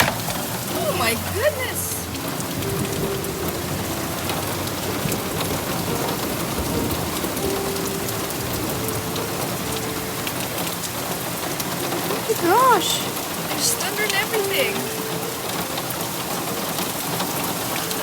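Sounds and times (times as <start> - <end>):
heavy rain pouring: 0.0 - 18.0
raindrops striking close by: 0.0 - 18.0.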